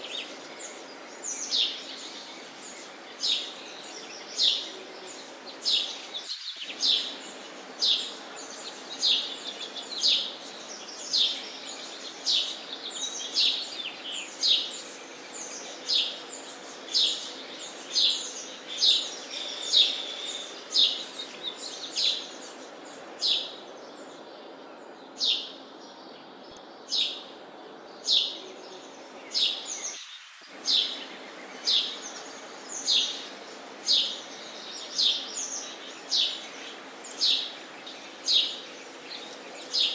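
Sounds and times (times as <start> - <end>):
low background noise: 0.0 - 39.9
sparrows chirping: 0.0 - 39.9.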